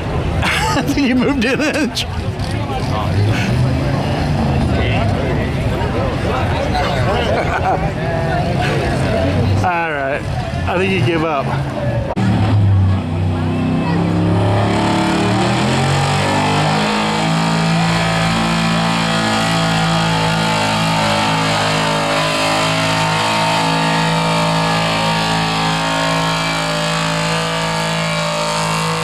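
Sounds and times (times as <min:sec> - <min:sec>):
pulling vehicle engine: 0:00.0 - 0:29.0.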